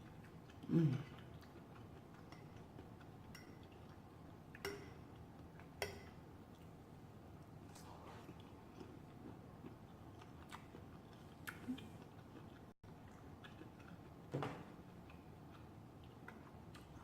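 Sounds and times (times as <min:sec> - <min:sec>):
person chewing: 0:00.0 - 0:05.2, 0:07.7 - 0:14.2, 0:14.9 - 0:17.0.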